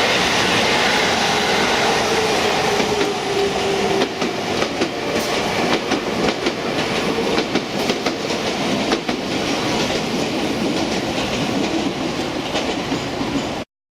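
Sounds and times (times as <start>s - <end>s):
freight train rumble: 0.0s - 13.6s.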